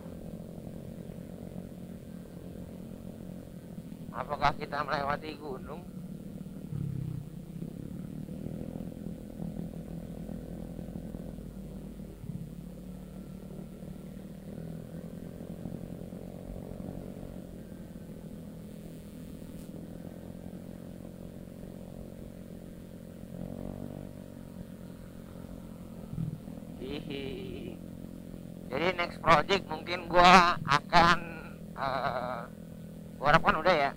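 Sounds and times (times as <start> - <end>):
scooter engine running: 0.0 - 33.9.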